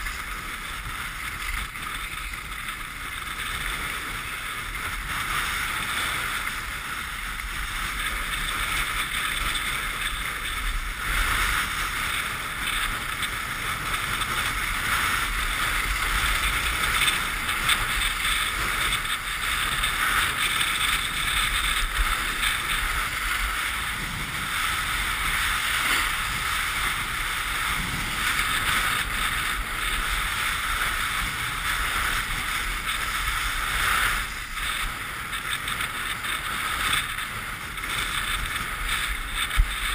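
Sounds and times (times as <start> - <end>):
scraping hiss of sliding on snow: 0.0 - 39.9
wind buffeting microphone: 0.0 - 39.9.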